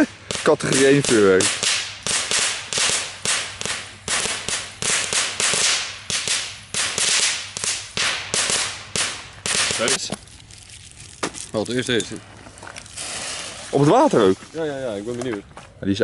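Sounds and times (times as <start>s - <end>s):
firework fizzing spurts: 0.0s - 12.0s, 12.8s - 15.0s.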